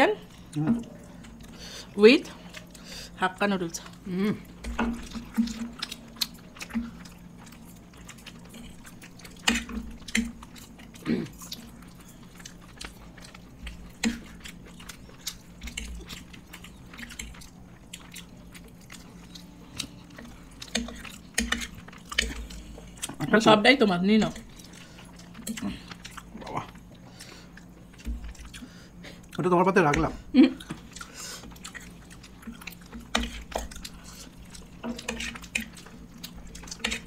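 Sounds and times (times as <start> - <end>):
faint steady hum: 0.0 - 37.0
people chewing food: 0.0 - 37.0.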